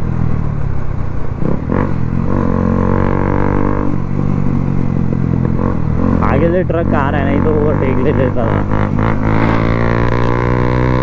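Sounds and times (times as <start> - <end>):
motorcycle engine droning: 0.0 - 11.0.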